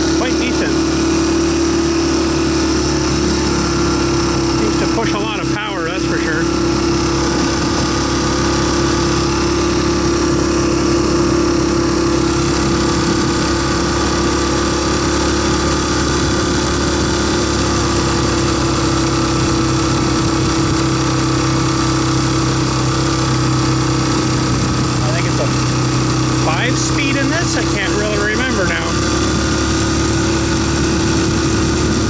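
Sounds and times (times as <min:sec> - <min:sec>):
dirt bike engine running: 0:00.0 - 0:32.0.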